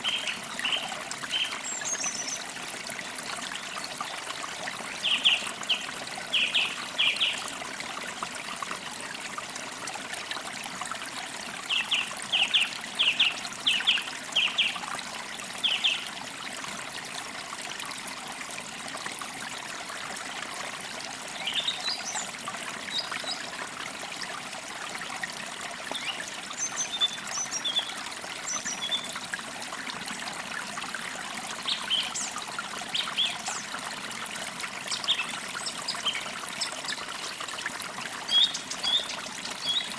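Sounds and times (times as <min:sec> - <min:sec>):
trickle of running water: 0:00.0 - 0:39.9.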